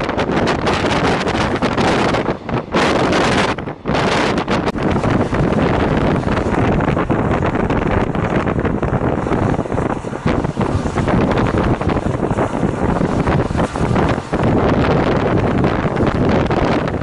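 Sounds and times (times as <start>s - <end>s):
train running noise: 0.0s - 17.0s
wind buffeting microphone: 0.0s - 17.0s.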